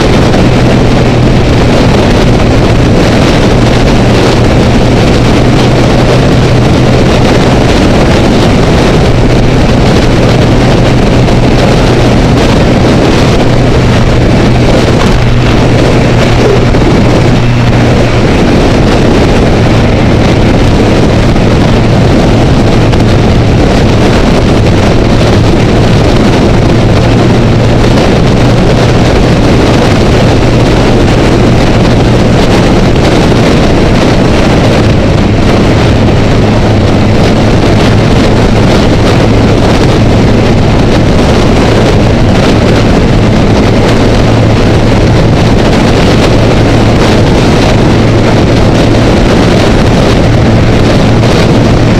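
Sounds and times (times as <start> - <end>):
motorcycle engine humming: 0.0 - 51.9
wind rushing over camera: 0.0 - 51.9.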